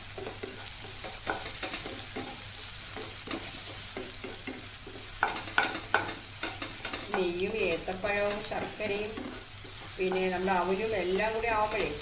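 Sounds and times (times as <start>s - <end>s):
spatula scraping a pan: 0.0s - 7.4s, 8.0s - 10.7s
food sizzling in a pan: 0.0s - 12.0s.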